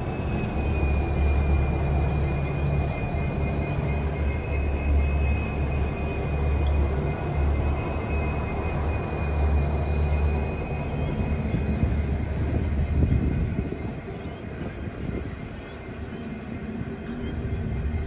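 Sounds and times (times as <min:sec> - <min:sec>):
diesel locomotive passing: 0:00.0 - 0:18.0
wagons rumbling over rails: 0:00.0 - 0:18.0.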